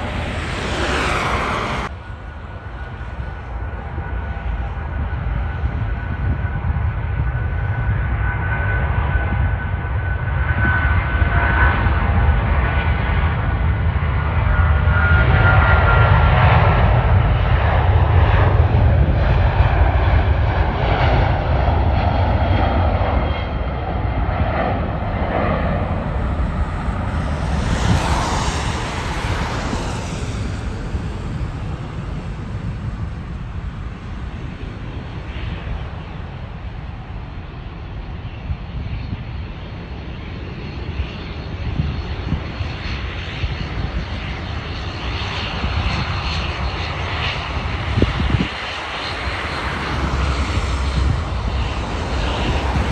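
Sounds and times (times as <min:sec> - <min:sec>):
jet airliner engines rumbling: 0:00.0 - 0:52.9.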